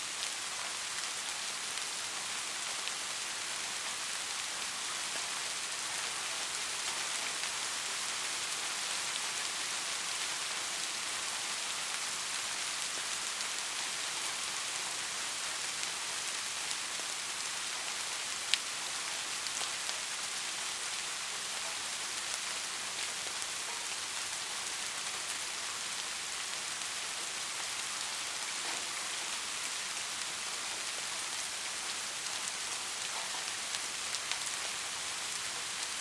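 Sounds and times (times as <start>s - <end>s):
steady rain falling: 0.0s - 36.0s.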